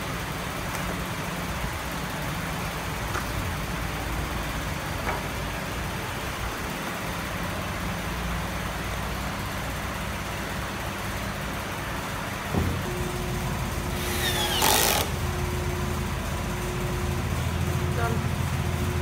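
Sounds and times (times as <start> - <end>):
workshop rumble and hiss: 0.0 - 19.0.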